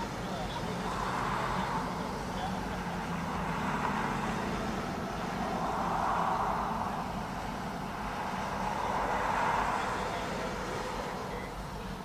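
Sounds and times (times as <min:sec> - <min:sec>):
vehicle low hum: 0:00.0 - 0:12.0
rushing sound: 0:00.1 - 0:10.0.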